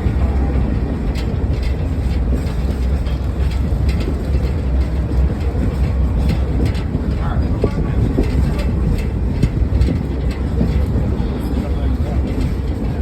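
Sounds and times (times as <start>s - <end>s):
clicks and rattles: 0.0s - 13.0s
railroad car rumbling on track: 0.0s - 13.0s.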